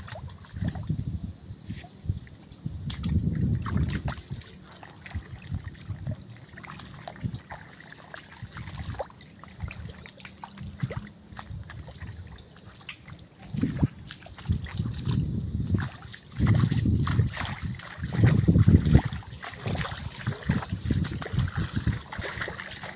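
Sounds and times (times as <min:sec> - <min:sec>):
footsteps sloshing through water: 0:00.0 - 0:22.9.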